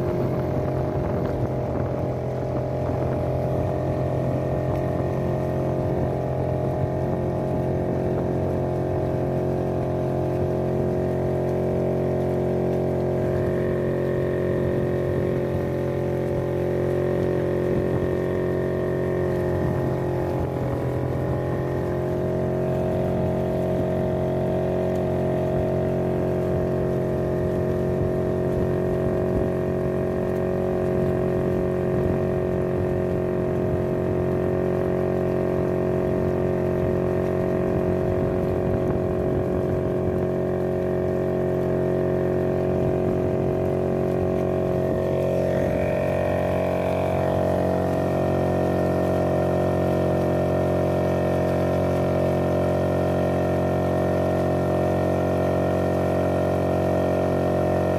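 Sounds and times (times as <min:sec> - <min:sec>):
small boat engine running: 0:00.0 - 0:57.9
water splashing along hull: 0:00.0 - 0:57.9.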